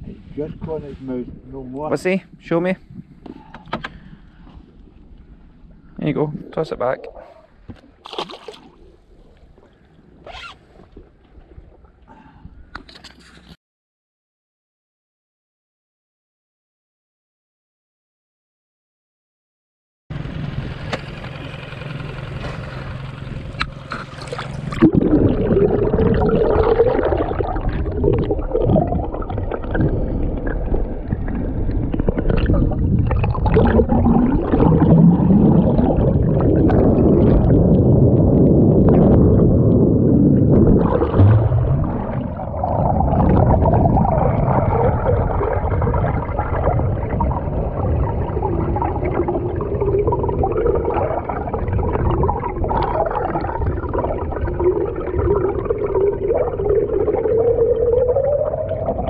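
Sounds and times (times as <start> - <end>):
water sloshing underwater: 0.0 - 13.6, 23.6 - 59.0.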